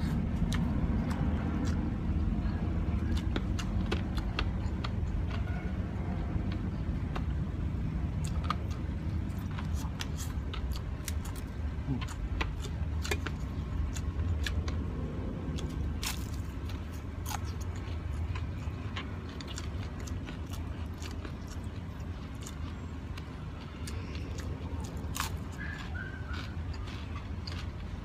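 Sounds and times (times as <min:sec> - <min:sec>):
crunchy chewing: 0:00.0 - 0:28.0
steady low rumble: 0:00.0 - 0:28.0.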